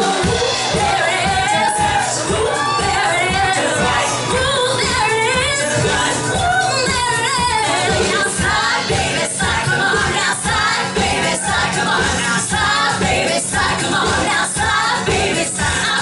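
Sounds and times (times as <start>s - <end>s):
steady beat: 0.0s - 15.7s
voices singing together: 0.0s - 16.0s.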